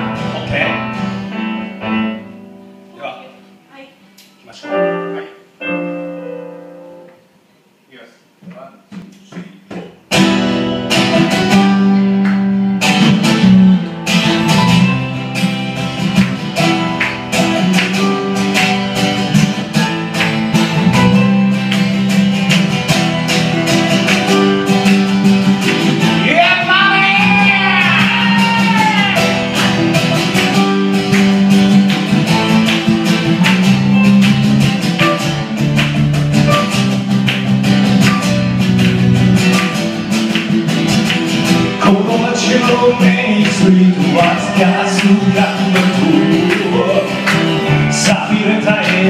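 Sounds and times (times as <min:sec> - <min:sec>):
strummed acoustic guitar: 0:00.0 - 0:02.4, 0:09.0 - 0:49.0
keyboard chords: 0:00.0 - 0:07.9, 0:10.0 - 0:49.0.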